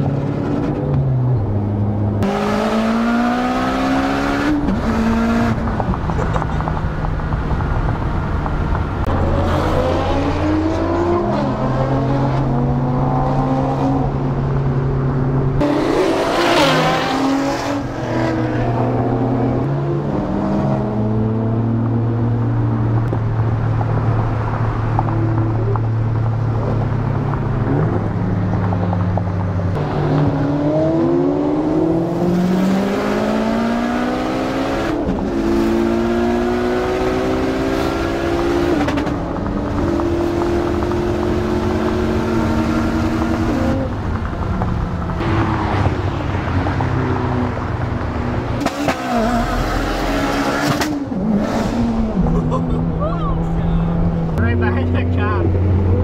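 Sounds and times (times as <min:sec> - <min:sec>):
car engine revving through gears: 0:00.0 - 0:06.7, 0:09.0 - 0:14.6, 0:15.5 - 0:23.2, 0:24.9 - 0:52.4.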